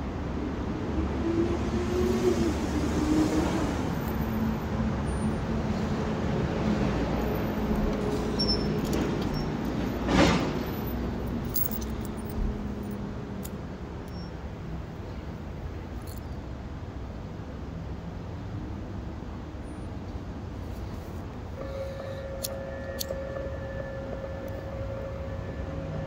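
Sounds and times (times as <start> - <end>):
traffic rush: 0.0 - 26.0
urban traffic noise: 0.0 - 26.0.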